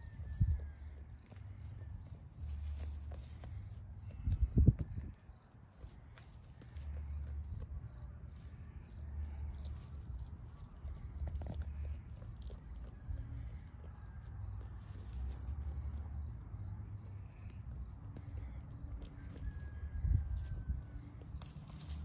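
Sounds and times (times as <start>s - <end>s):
sheep chewing dry grass: 0.0s - 22.0s.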